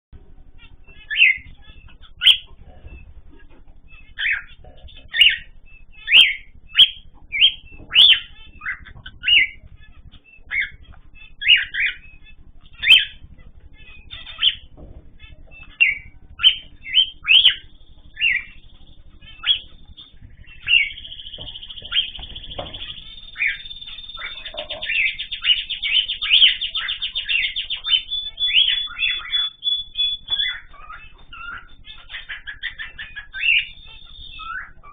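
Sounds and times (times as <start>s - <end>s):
small birds chirping: 0.2s - 34.9s
fast bird trill: 0.5s - 34.9s.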